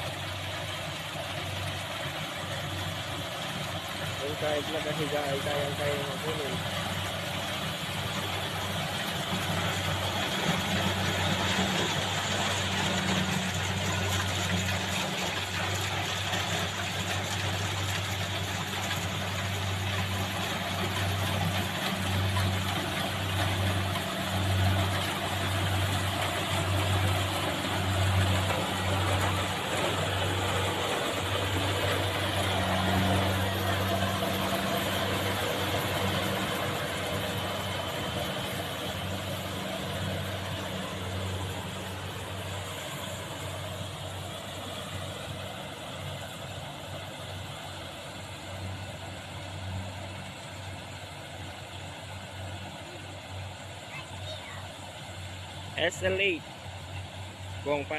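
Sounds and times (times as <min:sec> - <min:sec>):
harvesting machine engine humming: 0:00.0 - 0:57.9.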